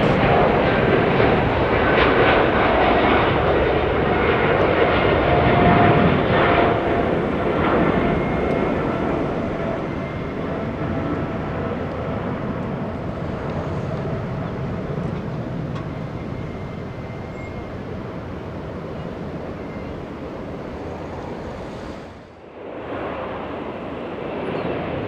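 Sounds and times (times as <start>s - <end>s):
faint engine whine: 0.0s - 24.7s
jet engine rumble: 0.0s - 25.0s.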